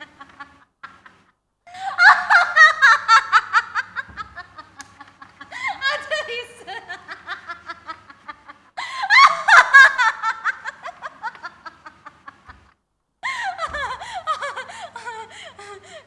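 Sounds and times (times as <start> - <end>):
woman laughing loudly: 0.0 - 16.0.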